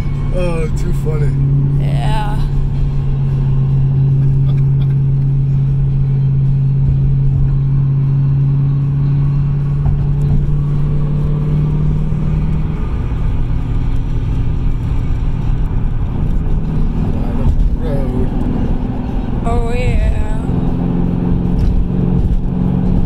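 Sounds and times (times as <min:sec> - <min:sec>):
car engine droning: 0:00.0 - 0:23.0
low road rumble: 0:00.0 - 0:23.0.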